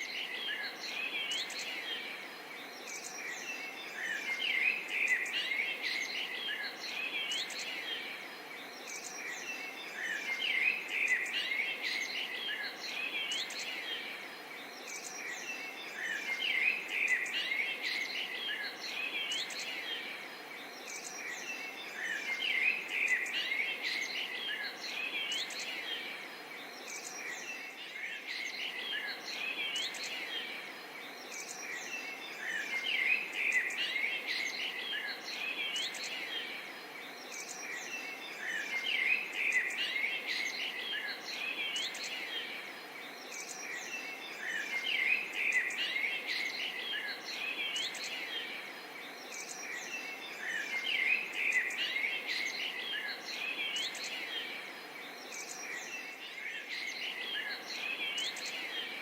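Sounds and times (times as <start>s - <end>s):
birds and insects chirping: 0.0s - 59.0s
soft steady background hiss: 0.0s - 59.0s.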